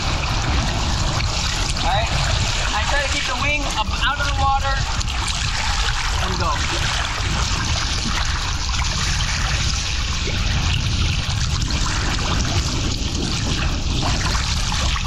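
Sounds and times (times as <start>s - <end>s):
sea water splashing: 0.0s - 15.0s
steady low rumble: 0.0s - 15.0s.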